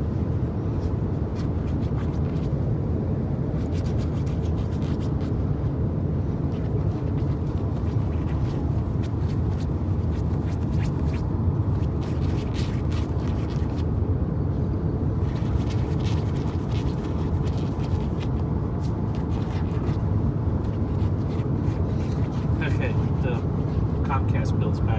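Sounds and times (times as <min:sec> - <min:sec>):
dog claws scratching fabric: 0:00.0 - 0:13.9, 0:15.0 - 0:24.2.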